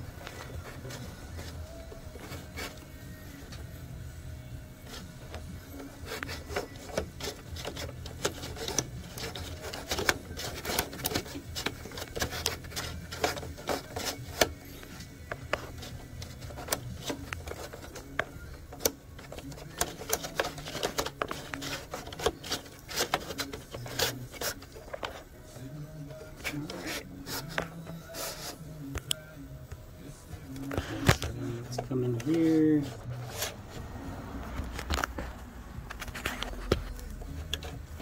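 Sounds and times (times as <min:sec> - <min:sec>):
plastic rubbing and scraping: 0:00.0 - 0:03.7, 0:04.8 - 0:29.2, 0:29.8 - 0:38.0.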